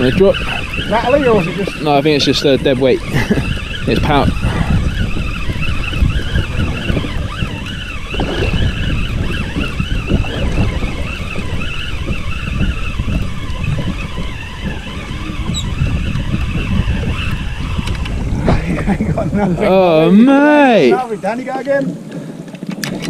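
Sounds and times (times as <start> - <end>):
fishing reel gears whirring: 0.0 - 21.5.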